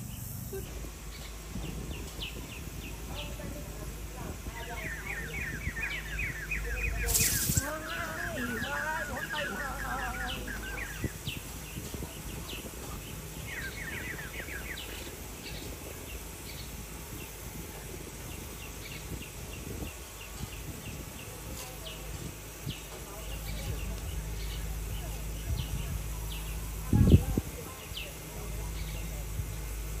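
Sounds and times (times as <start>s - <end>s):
low outdoor rumble: 0.0s - 30.0s
small birds chirping: 0.0s - 30.0s.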